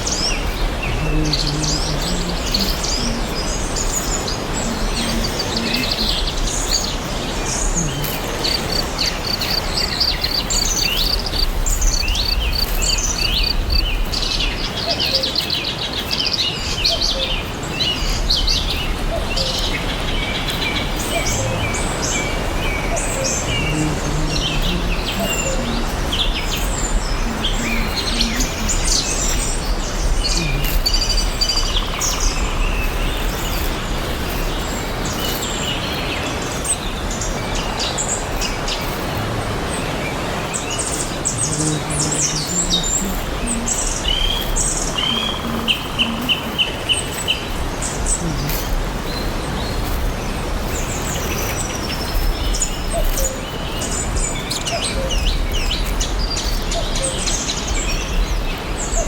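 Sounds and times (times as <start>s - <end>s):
background hiss: 0.0s - 59.0s
songbirds chirping: 0.0s - 59.0s.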